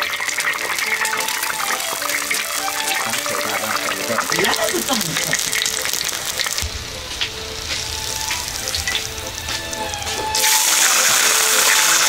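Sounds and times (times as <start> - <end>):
oil sizzling in a wok: 0.0 - 12.0
soft background music: 0.0 - 12.0.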